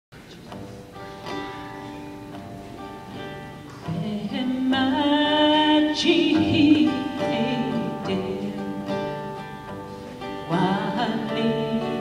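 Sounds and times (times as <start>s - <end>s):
guitar picking single notes: 0.3s - 12.0s.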